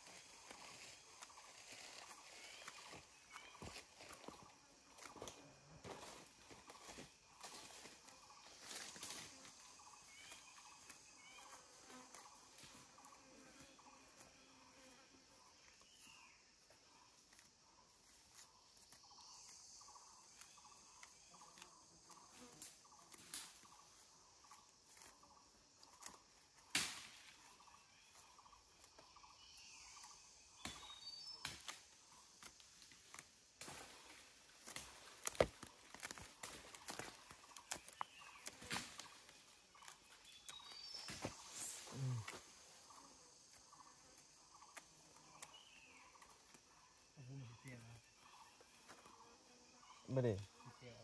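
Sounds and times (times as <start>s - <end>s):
faint insect hum: 0.0s - 51.0s.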